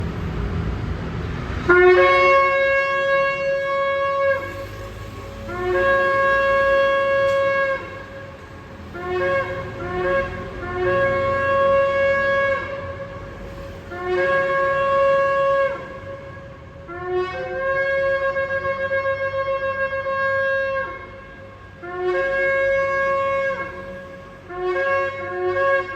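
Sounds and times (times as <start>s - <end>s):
shofar blasts: 1.7s - 25.9s.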